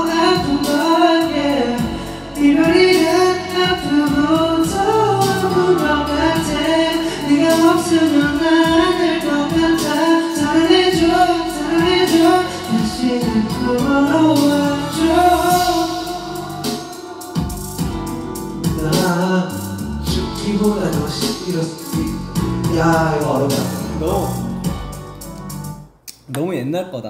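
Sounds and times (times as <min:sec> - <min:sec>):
man singing into microphone: 0:00.0 - 0:24.6
backing music: 0:00.0 - 0:26.3.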